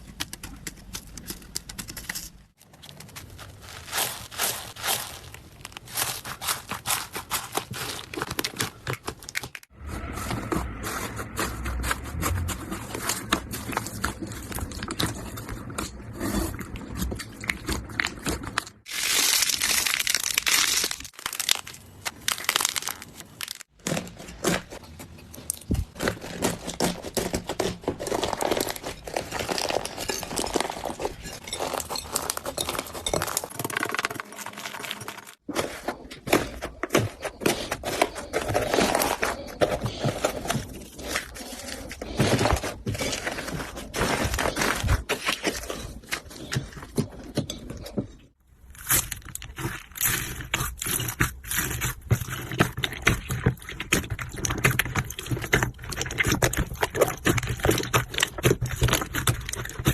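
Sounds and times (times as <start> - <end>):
slime crackling and crunching: 0.0 - 24.8, 25.4 - 46.8, 48.5 - 59.9.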